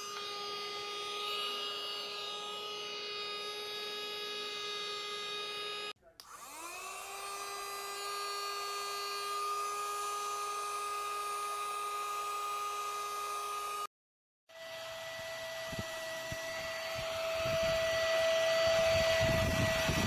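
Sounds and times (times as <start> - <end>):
vacuum cleaner motor whining: 0.0 - 13.9, 14.5 - 20.0.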